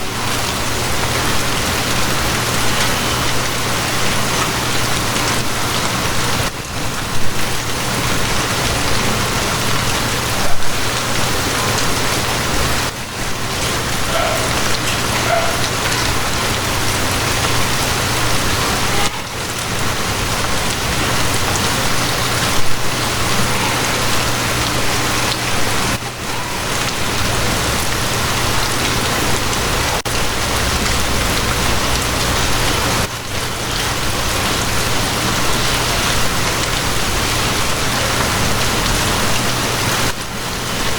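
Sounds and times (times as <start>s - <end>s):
heavy rain spattering: 0.0s - 40.9s.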